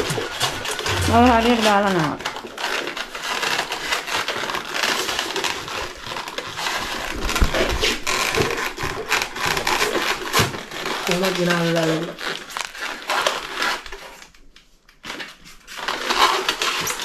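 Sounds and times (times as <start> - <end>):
scratchy scrapes and knocks: 0.0 - 14.1
polystyrene foam crunching: 0.0 - 17.0.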